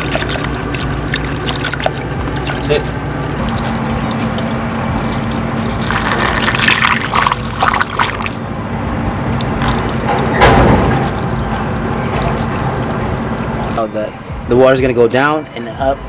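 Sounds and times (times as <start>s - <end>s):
liquid splashing and gurgling: 0.0s - 8.5s, 9.3s - 13.9s
low hum: 0.0s - 14.7s.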